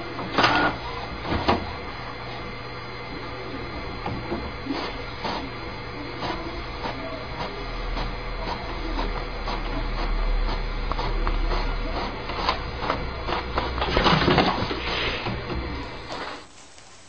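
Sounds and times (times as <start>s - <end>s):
inkjet printer whirring and clicking: 0.0s - 17.0s.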